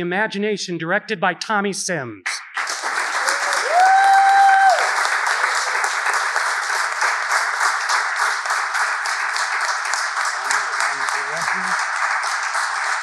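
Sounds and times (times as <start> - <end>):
audience applause: 2.6 - 13.0.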